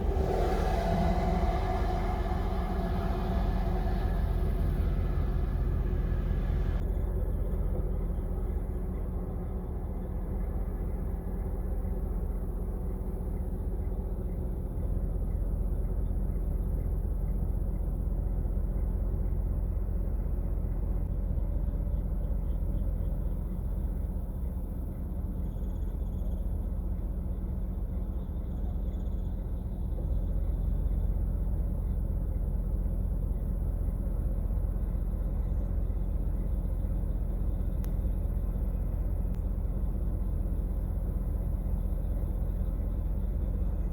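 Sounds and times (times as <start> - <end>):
low vehicle rumble: 0.0 - 43.9.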